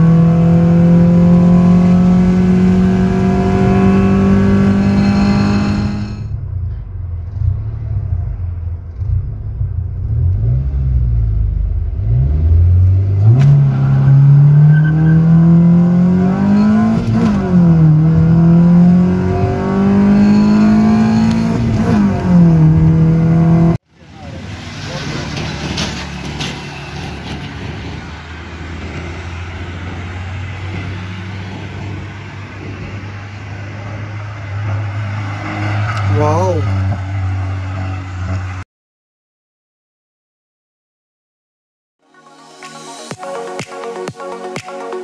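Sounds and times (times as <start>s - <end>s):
car engine revving: 0.0s - 38.6s.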